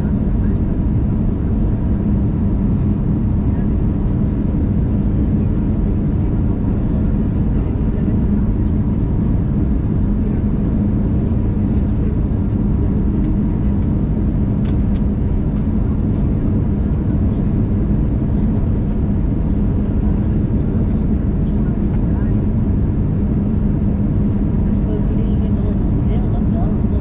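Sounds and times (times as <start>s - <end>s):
airplane cabin engine roar: 0.0s - 27.0s.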